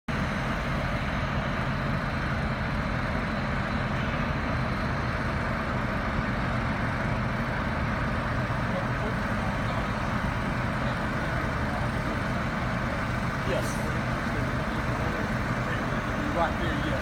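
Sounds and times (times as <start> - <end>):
vehicle engine low rumble: 0.1 - 17.0.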